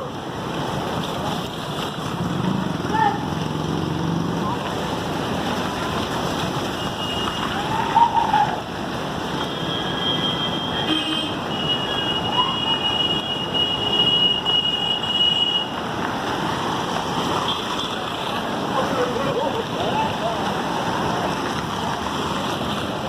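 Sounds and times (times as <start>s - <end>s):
floodwater roaring through dam: 0.0s - 23.0s.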